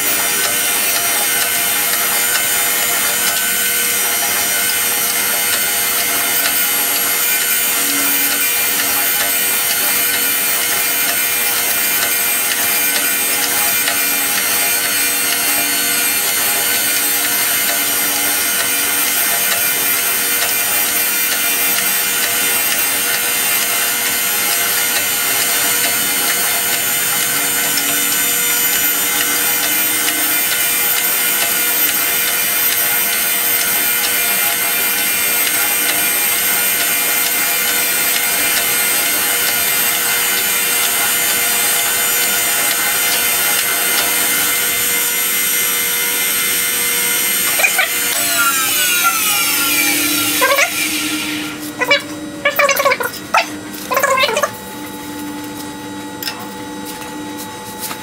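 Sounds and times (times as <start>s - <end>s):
grinding wheel hissing on metal: 0.0s - 54.4s
spindle motor whine: 0.0s - 58.0s.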